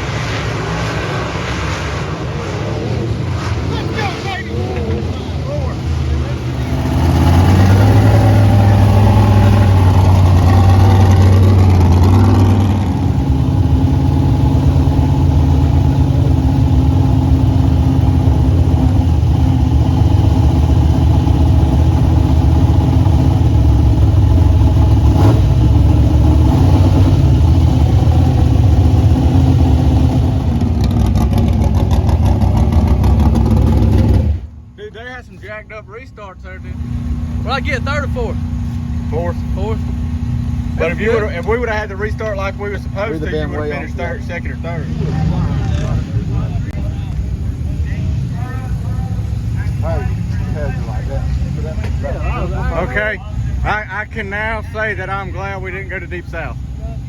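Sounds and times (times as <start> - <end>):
race car engine running: 0.0 - 35.7, 36.4 - 57.0.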